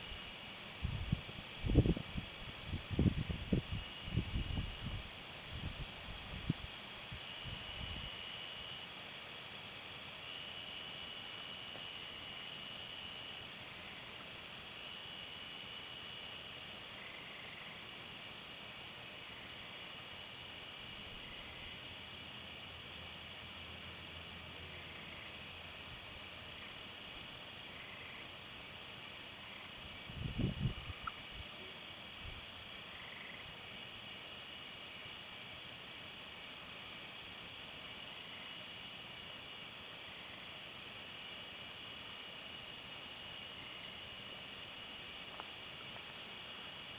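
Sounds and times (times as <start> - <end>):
crickets and insects chirping: 0.0 - 46.9
high insect trill: 0.0 - 46.9.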